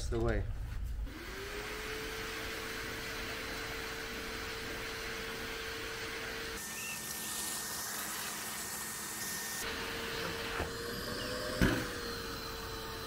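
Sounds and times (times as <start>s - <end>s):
shop vacuum motor whine: 1.1s - 13.0s.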